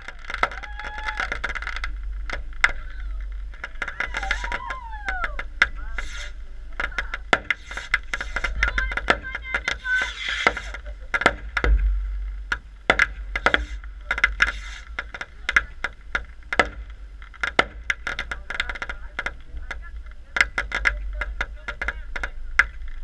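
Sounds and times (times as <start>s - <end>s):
fireworks popping and crackling: 0.0s - 23.0s
low rumble: 0.0s - 23.0s.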